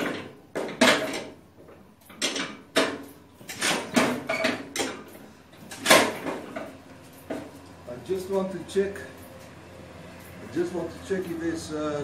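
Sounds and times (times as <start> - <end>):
engine cranked by hand: 2.0 - 12.0.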